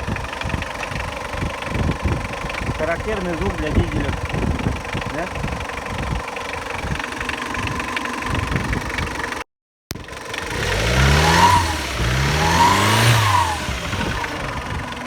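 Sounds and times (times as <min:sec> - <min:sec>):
diesel engine idling: 0:00.0 - 0:09.4, 0:10.0 - 0:15.0
diesel engine revving: 0:00.0 - 0:09.4, 0:10.0 - 0:15.0.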